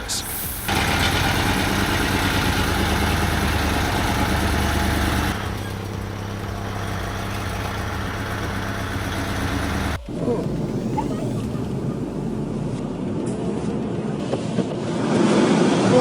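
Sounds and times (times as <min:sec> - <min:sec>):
truck diesel engine running: 0:00.0 - 0:14.2.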